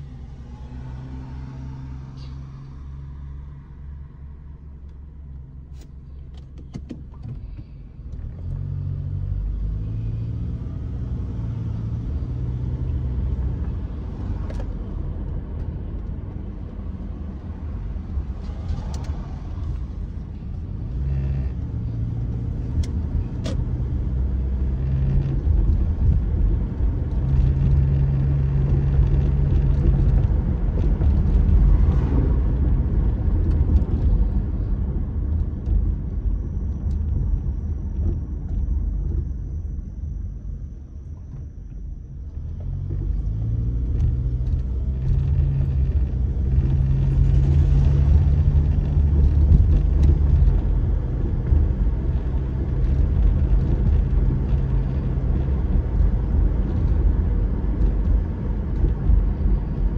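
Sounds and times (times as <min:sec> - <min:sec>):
car engine: 0:00.0 - 0:59.9
road noise: 0:00.0 - 0:59.9.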